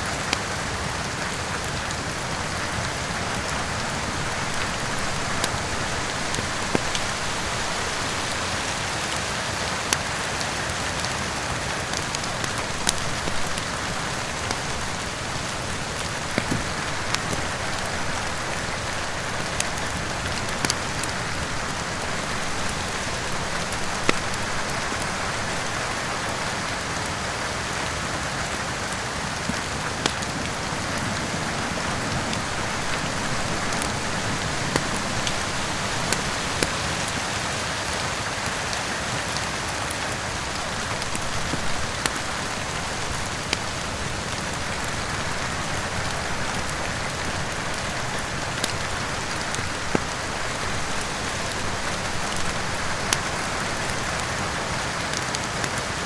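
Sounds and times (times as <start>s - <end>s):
heavy rain: 0.0s - 56.0s
wood fire crackling: 0.0s - 56.0s.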